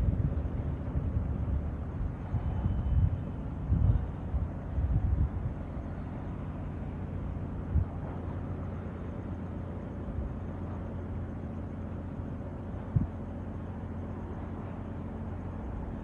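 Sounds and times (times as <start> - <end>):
wind rumble: 0.0 - 11.3, 12.1 - 16.0.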